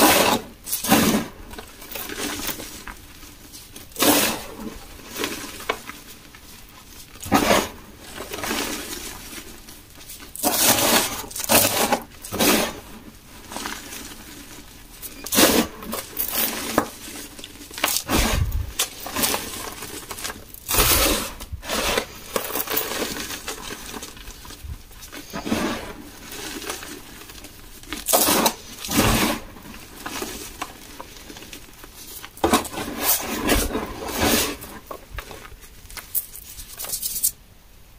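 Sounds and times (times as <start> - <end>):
chalk crunching and crumbling: 0.0 - 37.4
powdery rustling: 0.0 - 37.4.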